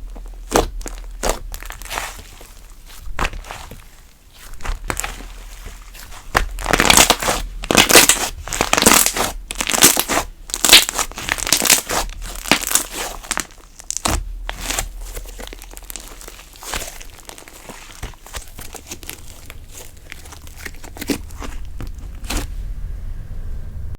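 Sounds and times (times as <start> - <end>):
slime squishing by hand: 0.0 - 22.8.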